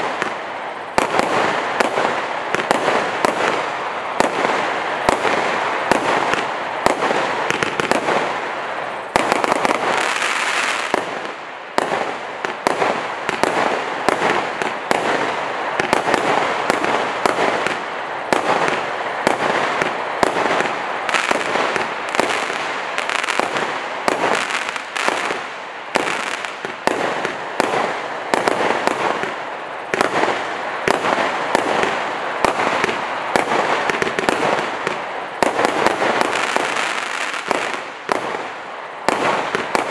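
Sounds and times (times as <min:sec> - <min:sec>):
crackling firework bursts: 0:00.0 - 0:39.9
fireworks barrage: 0:00.0 - 0:39.9.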